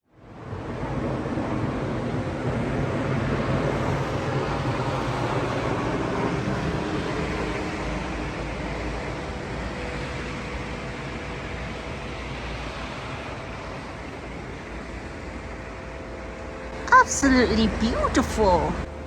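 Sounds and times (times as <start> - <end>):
low hum: 0.1 - 19.0
strong wind rushing: 0.3 - 18.9.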